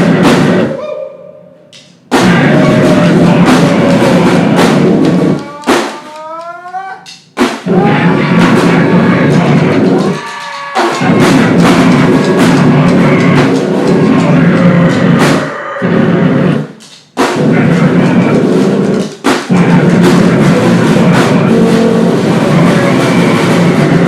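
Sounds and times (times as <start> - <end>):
distorted noise: 0.0 - 0.8, 2.0 - 5.8, 7.6 - 24.0
drum kit pounding: 0.0 - 0.8, 1.8 - 6.2, 7.0 - 24.0.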